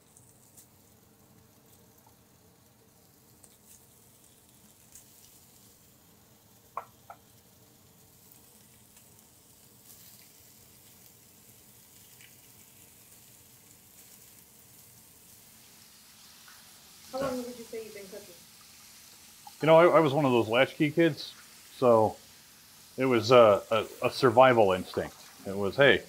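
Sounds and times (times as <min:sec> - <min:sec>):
sausage sizzling in skillet: 0:00.0 - 0:26.0.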